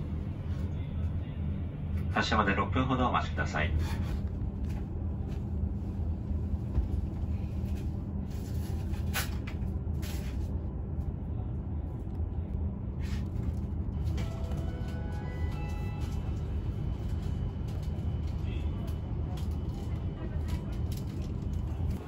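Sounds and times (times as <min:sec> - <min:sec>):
train car low hum: 0:00.0 - 0:22.0.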